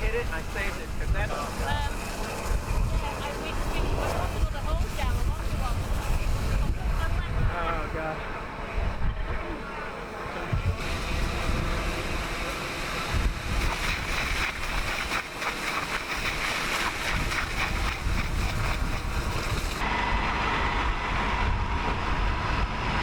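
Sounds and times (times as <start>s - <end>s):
outdoor rumble: 0.0s - 23.0s
steady whine: 0.0s - 23.0s
wind buffeting microphone: 0.0s - 23.0s.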